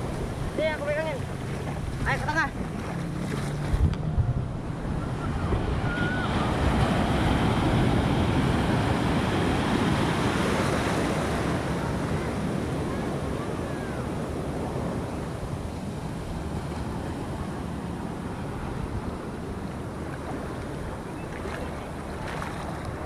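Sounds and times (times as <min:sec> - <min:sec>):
ocean waves breaking into surf: 0:00.0 - 0:23.0.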